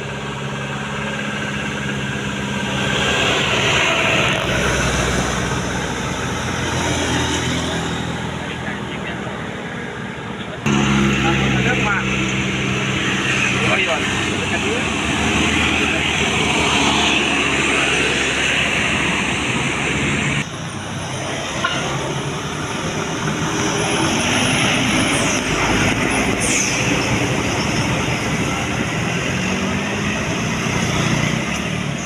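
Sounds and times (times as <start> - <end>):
large vehicle engine running: 0.0 - 32.0.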